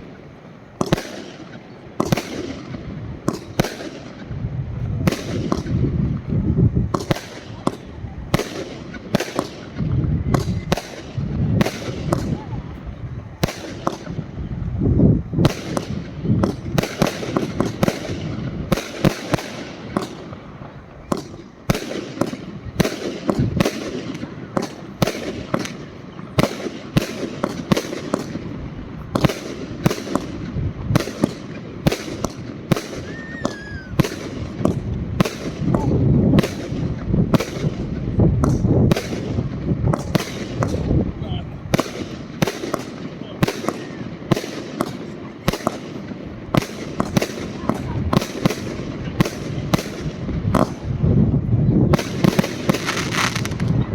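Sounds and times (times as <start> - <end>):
fireworks cake bangs: 0.8 - 14.6, 15.2 - 53.9.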